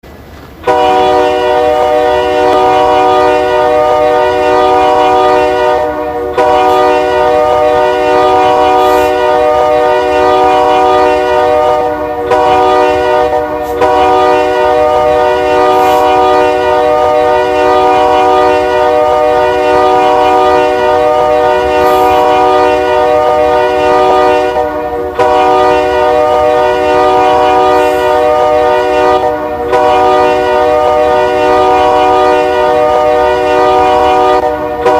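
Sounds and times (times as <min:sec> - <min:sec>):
locomotive air horn blasts: 0:00.6 - 0:34.9.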